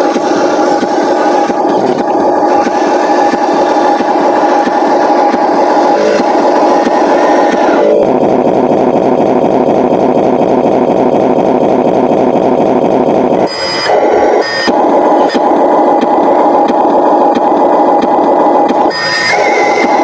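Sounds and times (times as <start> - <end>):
remote-control truck buzzing: 0.0 - 20.0.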